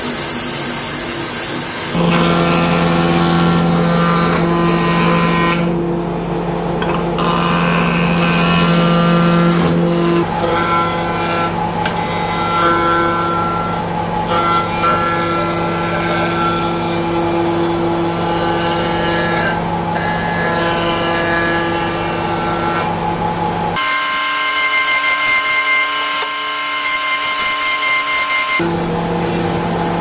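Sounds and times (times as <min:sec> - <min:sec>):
woodworking power tool running: 0:00.0 - 0:30.0.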